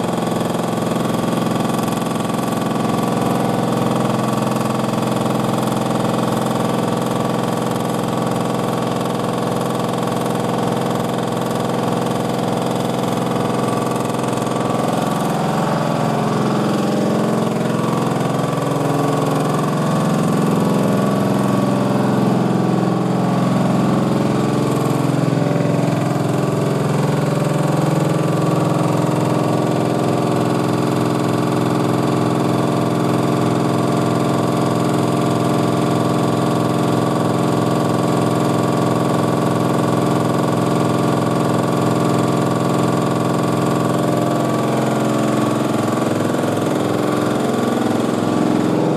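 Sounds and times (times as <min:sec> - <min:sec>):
jackhammer hammering: 0:00.0 - 0:48.9
machine engine drone: 0:00.0 - 0:48.9.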